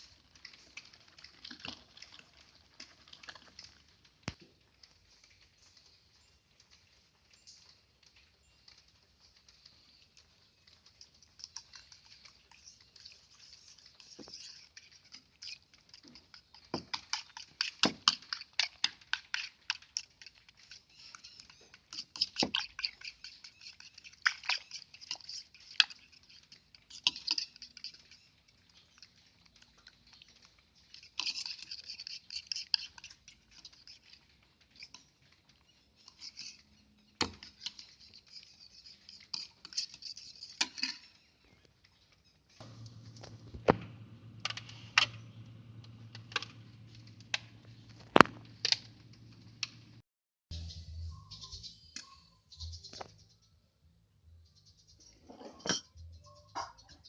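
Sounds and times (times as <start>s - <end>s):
kitchen utensils clicking and scraping: 0.0s - 5.8s, 8.6s - 50.0s, 55.0s - 57.0s.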